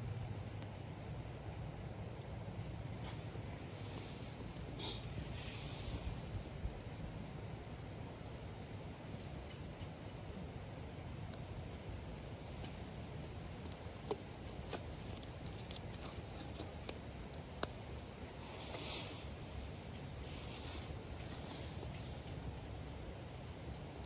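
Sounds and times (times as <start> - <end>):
campfire burning: 0.0 - 24.0
fire crackles and pops: 0.0 - 24.0.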